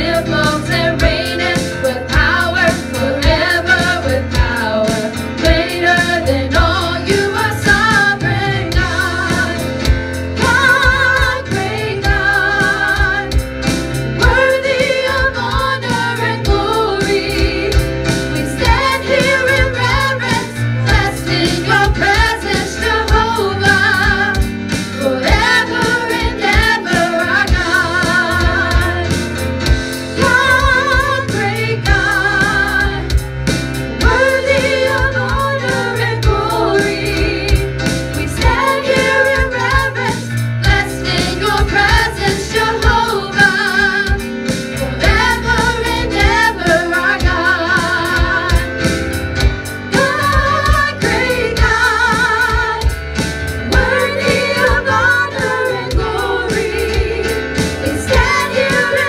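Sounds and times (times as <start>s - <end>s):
women singing in harmony: 0.0s - 29.3s, 30.1s - 33.2s, 33.9s - 48.9s, 49.9s - 53.0s, 53.6s - 59.0s
band accompaniment with steady beat: 0.0s - 59.0s.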